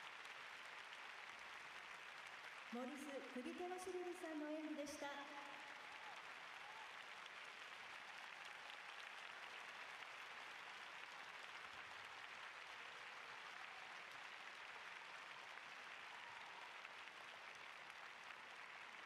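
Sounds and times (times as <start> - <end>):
faint crowd applauding: 0.0 - 19.0.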